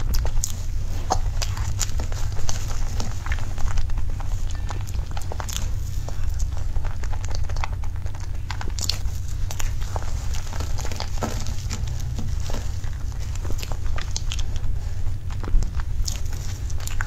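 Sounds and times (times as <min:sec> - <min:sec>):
lip smacks and squishy chewing: 0:00.0 - 0:17.0
low steady hum: 0:00.0 - 0:17.0.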